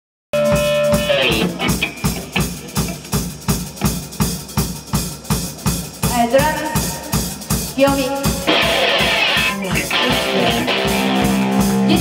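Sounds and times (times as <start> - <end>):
bass drum and snare beat: 0.4 - 12.0
live rock band: 0.4 - 12.0.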